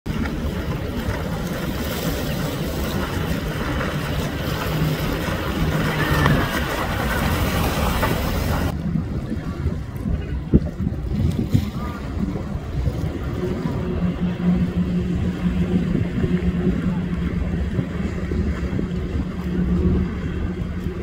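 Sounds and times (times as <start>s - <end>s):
jet ski engine drone: 0.1s - 21.0s
wind and water spray rush: 0.1s - 21.0s.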